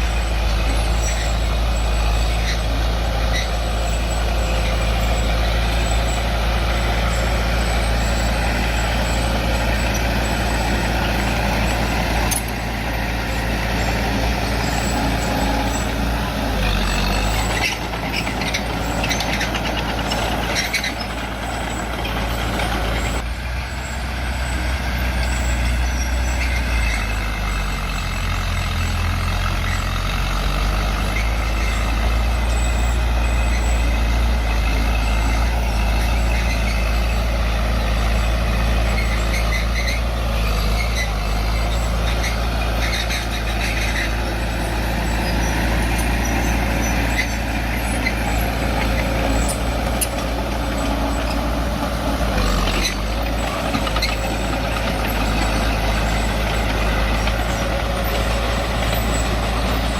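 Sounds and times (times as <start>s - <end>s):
diesel machinery engine rumbling: 0.0s - 59.9s.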